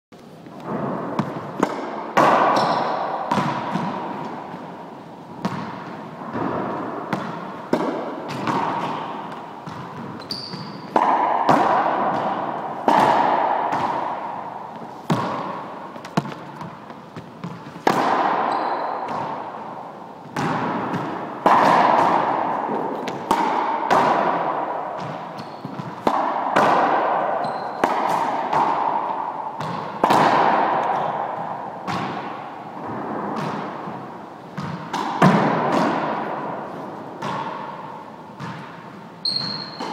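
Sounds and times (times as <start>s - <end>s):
court echo ringing: 0.6s - 39.9s
squash ball hit by racket: 0.6s - 39.9s.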